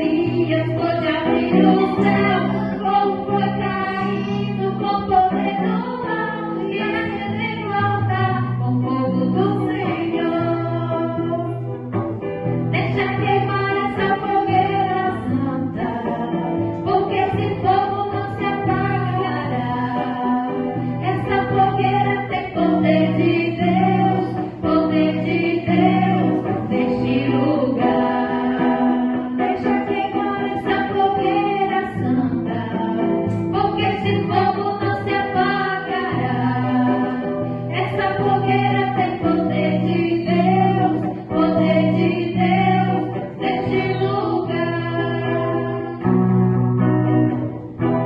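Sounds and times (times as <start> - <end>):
voices singing gospel song: 0.0 - 8.4, 12.8 - 46.5
instrumental backing with bass: 0.0 - 48.0.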